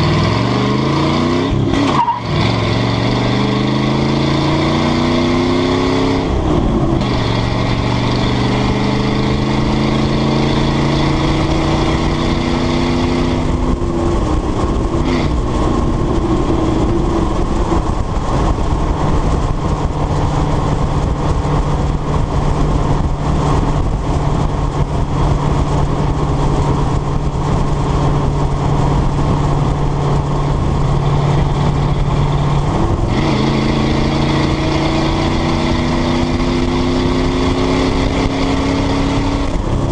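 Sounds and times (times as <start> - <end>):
truck engine running: 0.0 - 39.9
tyre and wind noise: 0.0 - 39.9.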